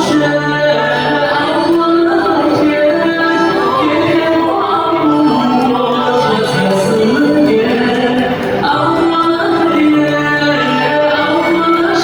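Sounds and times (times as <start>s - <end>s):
instrumental backing: 0.0s - 12.0s
person singing long notes: 0.0s - 12.0s.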